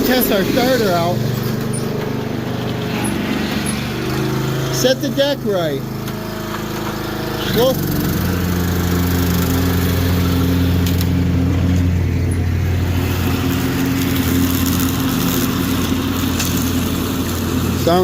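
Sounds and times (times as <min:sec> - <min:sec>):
lawn tractor engine running: 0:00.0 - 0:18.0.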